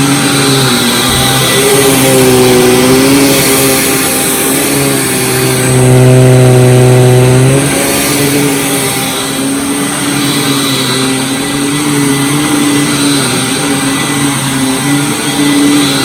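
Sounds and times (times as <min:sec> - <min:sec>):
vacuum cleaner running on carpet: 0:00.0 - 0:16.0.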